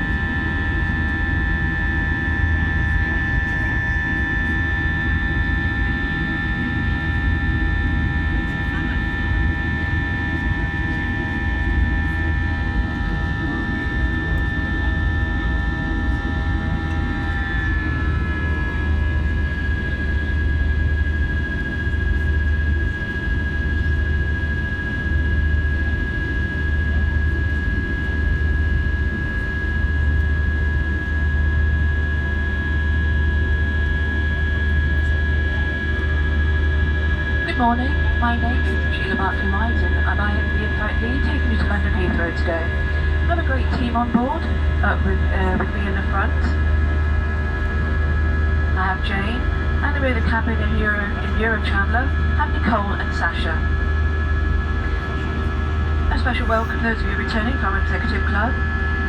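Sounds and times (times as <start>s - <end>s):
jet engines running in cabin: 0.0s - 59.0s.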